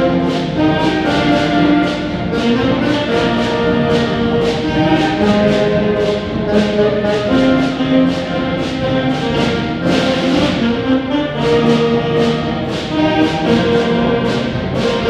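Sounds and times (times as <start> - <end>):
brass and wind chords: 0.0 - 15.0
percussion strokes: 0.0 - 15.0.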